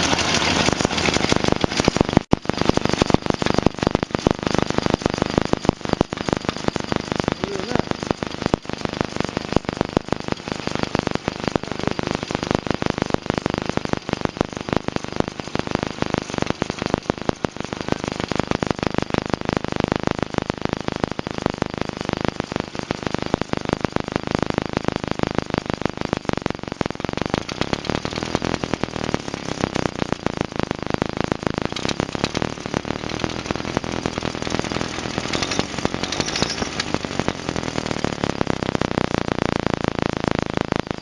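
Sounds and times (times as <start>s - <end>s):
car engine running: 0.0s - 41.0s
rapid electrical clicks: 0.0s - 41.0s.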